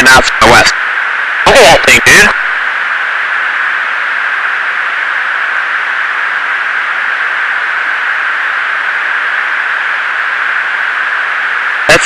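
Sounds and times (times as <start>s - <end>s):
intercom static hiss: 0.0s - 12.0s.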